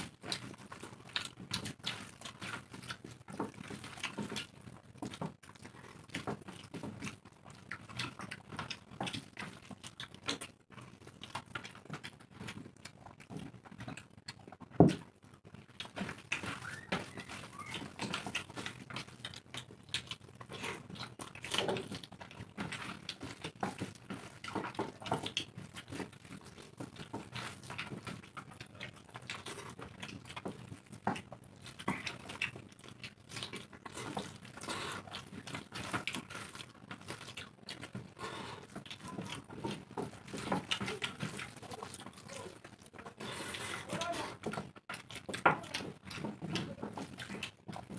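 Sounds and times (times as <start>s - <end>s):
wet chewing and lip smacks: 0.0s - 47.9s.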